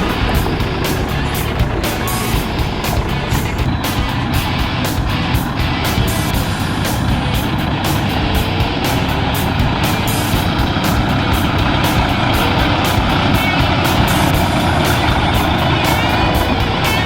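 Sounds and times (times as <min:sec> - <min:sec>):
heavy truck engine running: 0:00.0 - 0:17.0
music playing: 0:00.0 - 0:17.0.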